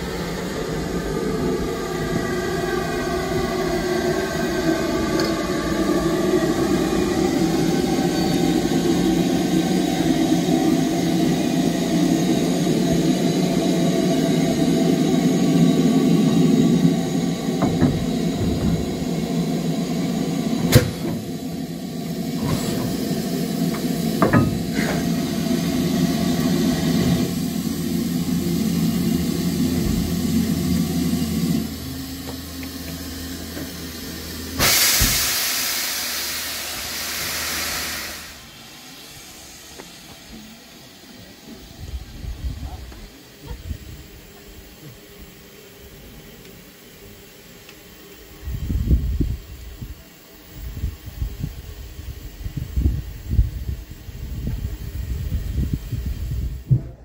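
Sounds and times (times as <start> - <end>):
steam locomotive hiss and rumble: 0.0 - 57.0.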